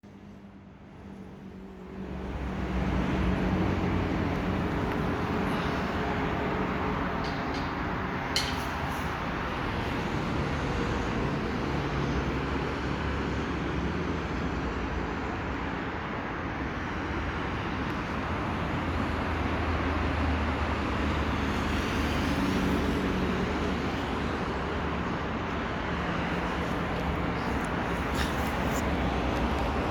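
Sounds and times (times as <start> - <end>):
road traffic hum: 0.1 - 29.9.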